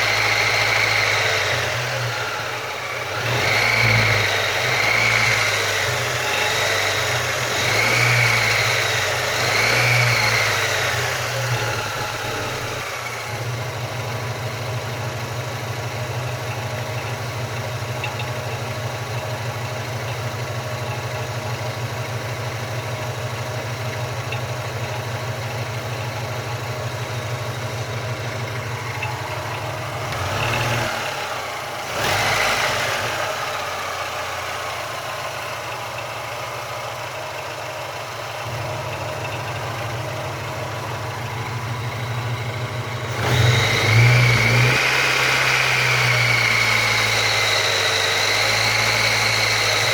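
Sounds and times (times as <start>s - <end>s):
car engine revving and idling: 0.0s - 49.9s.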